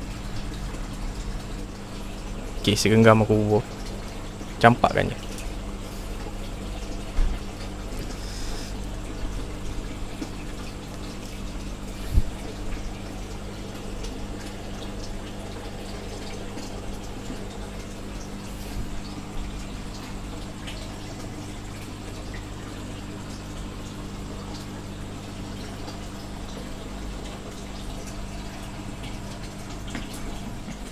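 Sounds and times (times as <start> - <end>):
steady low hum: 0.0 - 30.9
water bubbling into aquarium: 0.0 - 30.9.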